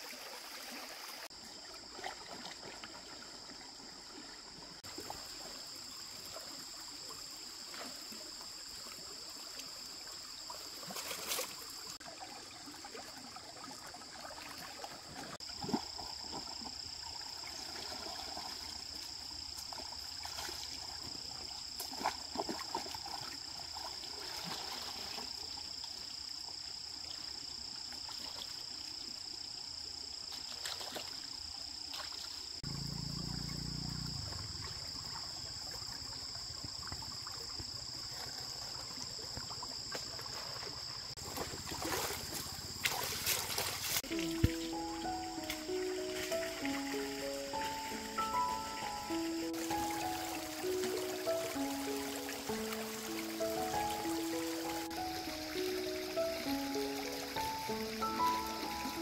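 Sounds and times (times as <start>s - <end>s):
water trickling: 0.0s - 27.5s, 30.6s - 59.0s
high-pitched insect chorus: 0.0s - 59.0s.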